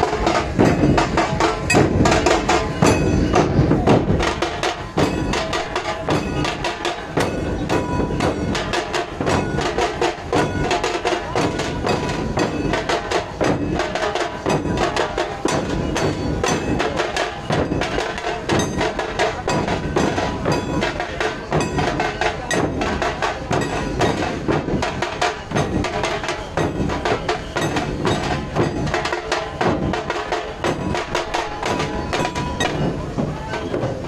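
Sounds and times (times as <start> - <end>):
barrel drums beaten with sticks: 0.0 - 34.0.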